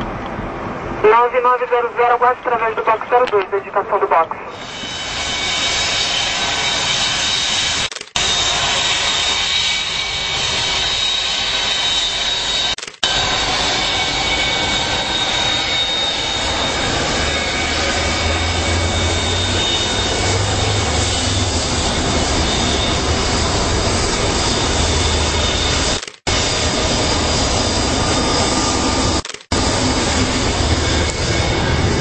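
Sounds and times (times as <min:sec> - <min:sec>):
jet engines whining: 0:00.0 - 0:32.0.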